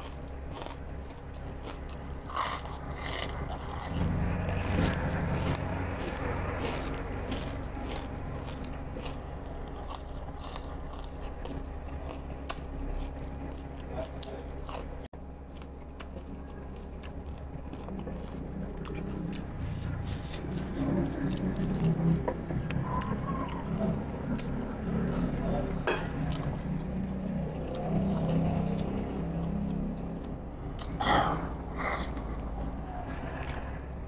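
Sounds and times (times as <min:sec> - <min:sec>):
low steady hum: 0:00.0 - 0:34.0
person chewing and crunching food: 0:00.0 - 0:34.0.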